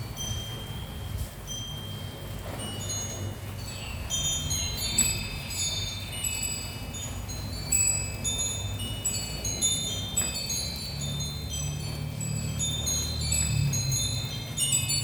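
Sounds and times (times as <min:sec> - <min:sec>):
wind chime tinkling: 0:00.0 - 0:15.0.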